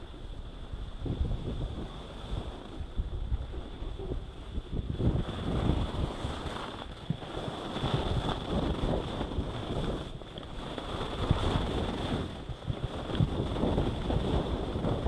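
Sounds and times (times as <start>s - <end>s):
skis scraping over packed snow: 0.0s - 15.0s
wind buffeting microphone: 0.0s - 15.0s.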